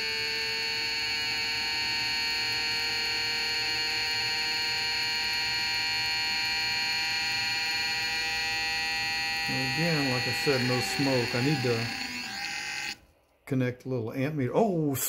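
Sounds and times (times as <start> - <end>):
electric motor high-pitched whine: 0.0 - 13.0.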